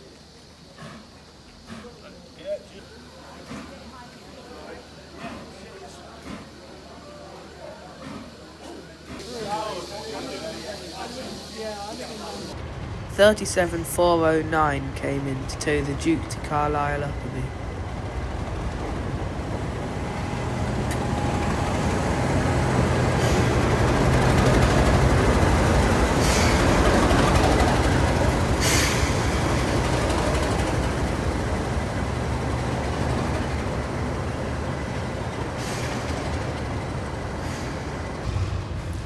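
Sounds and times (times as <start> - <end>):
diesel locomotive engine: 0.0 - 39.0.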